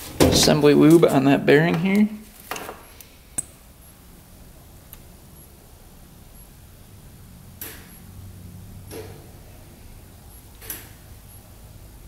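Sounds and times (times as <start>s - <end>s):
faint low hum: 0.2s - 12.0s.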